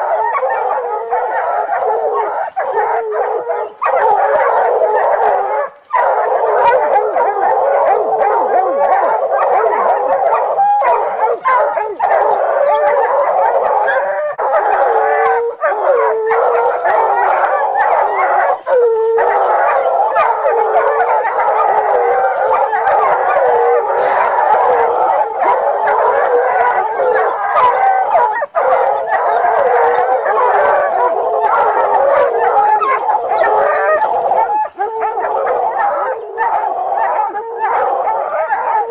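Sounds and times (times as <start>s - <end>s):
hounds baying and howling: 0.0s - 38.9s.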